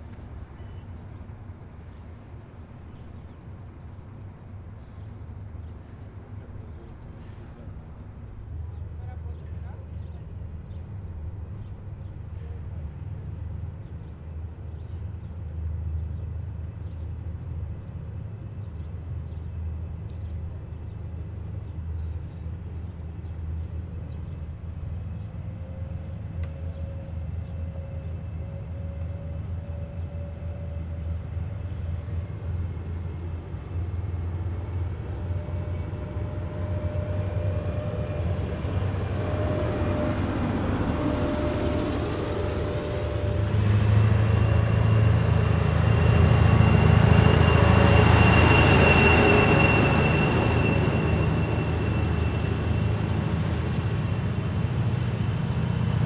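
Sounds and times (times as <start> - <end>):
heavy vehicle engines rumbling: 0.0 - 56.0
vehicle whine: 0.0 - 56.0.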